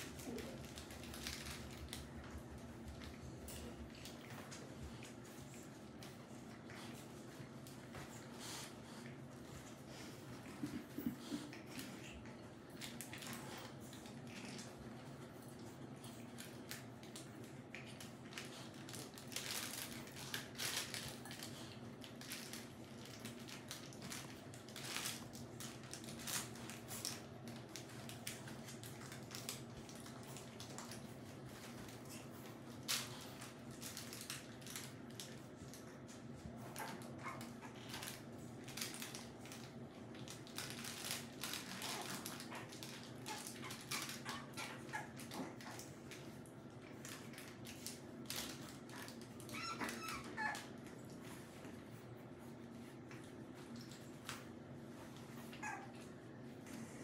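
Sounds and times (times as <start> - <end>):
puppies rustling and scratching: 0.0 - 57.0
steady low hum: 0.0 - 57.0.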